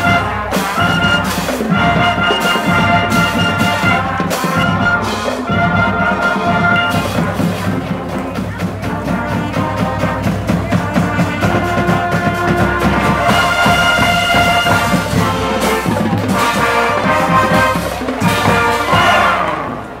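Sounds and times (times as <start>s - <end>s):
steady drum beat: 0.0s - 19.6s
marching band playing: 0.0s - 20.0s
saxophones: 0.0s - 20.0s.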